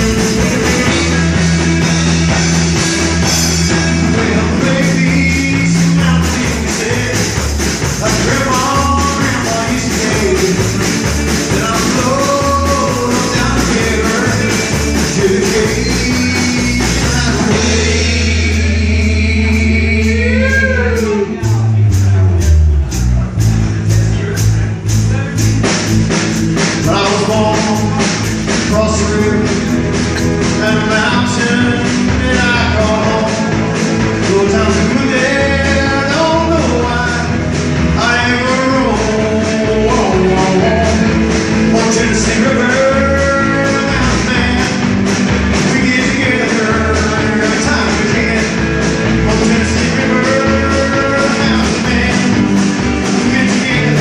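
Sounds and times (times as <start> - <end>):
rock song with singer: 0.0 - 54.0.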